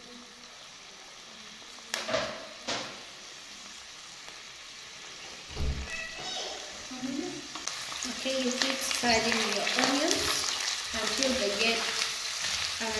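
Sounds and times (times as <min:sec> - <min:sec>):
onions sizzling in hot oil: 0:00.0 - 0:12.9.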